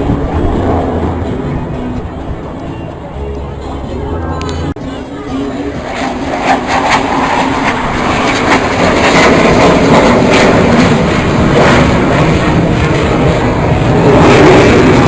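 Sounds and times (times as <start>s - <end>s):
aircraft engine noise: 0.0s - 15.0s.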